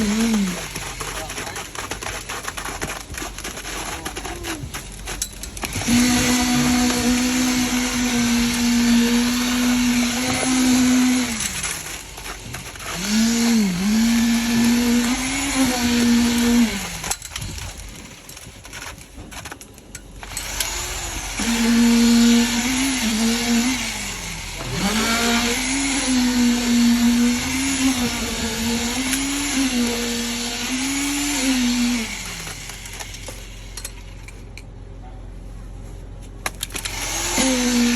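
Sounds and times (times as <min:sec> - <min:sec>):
concrete vibrator motor whining: 0:00.0 - 0:34.7, 0:36.4 - 0:37.9.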